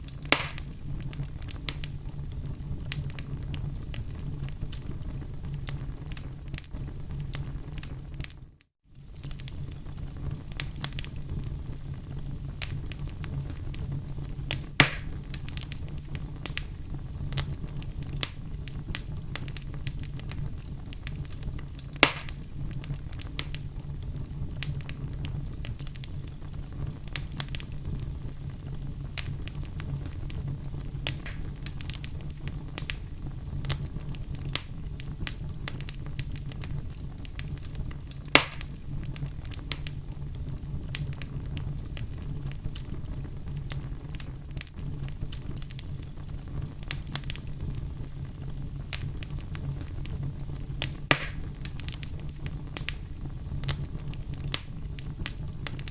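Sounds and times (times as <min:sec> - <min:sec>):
fireplace fire rumbling and crackling: 0:00.0 - 0:55.9
loud fire pops: 0:00.0 - 0:55.9.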